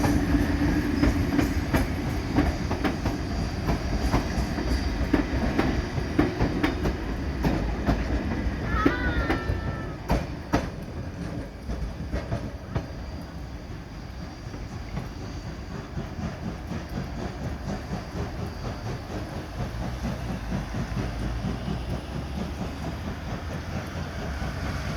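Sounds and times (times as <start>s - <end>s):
train rumbling: 0.0s - 24.9s
wheels clickety-clack on rail joints: 0.0s - 24.9s.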